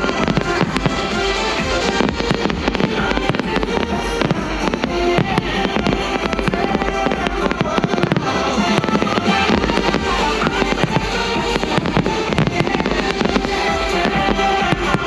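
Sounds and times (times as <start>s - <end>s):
fireworks bursting and crackling: 0.0s - 15.0s
music over speakers: 0.0s - 15.0s.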